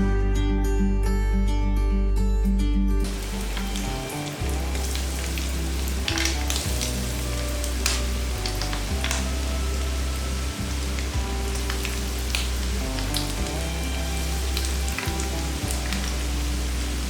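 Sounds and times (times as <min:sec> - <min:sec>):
background music with bass: 0:00.0 - 0:17.0
snacks sizzling in hot oil: 0:03.0 - 0:17.0.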